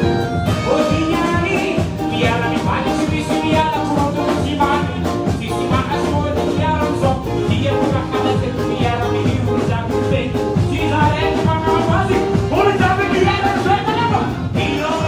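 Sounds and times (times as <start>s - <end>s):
live band music: 0.0s - 15.0s
man singing: 0.0s - 15.0s.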